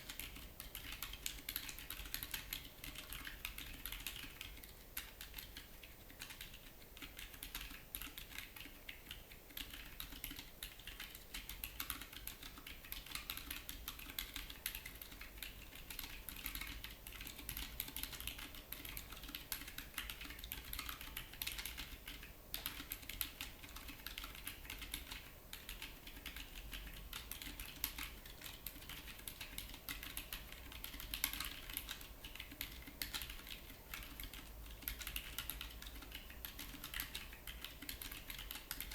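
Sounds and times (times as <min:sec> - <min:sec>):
fast typing on a keyboard: 0:00.0 - 0:38.9.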